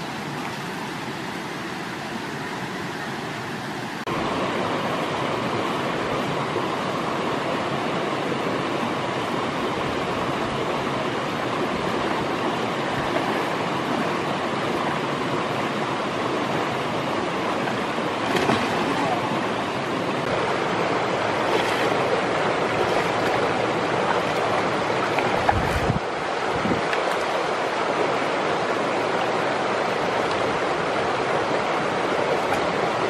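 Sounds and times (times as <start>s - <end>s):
stream flowing over stones: 0.0s - 33.0s.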